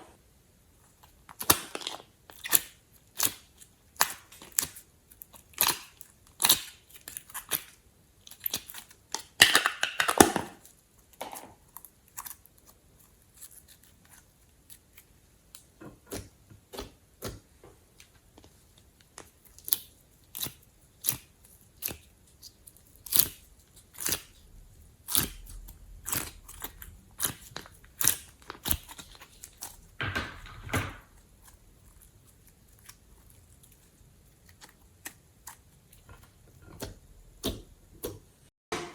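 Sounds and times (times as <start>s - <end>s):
crackling squishes: 0.9s - 38.5s.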